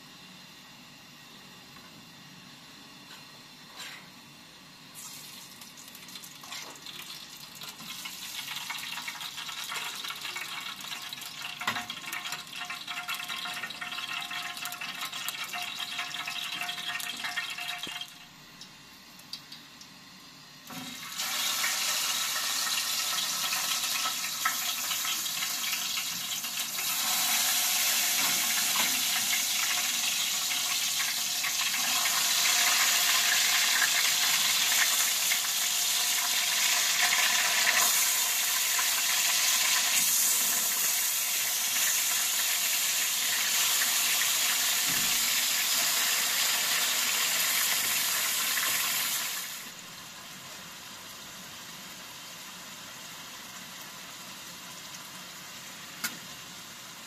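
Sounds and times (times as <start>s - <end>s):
oil sizzling in a frying pan: 4.2s - 57.0s.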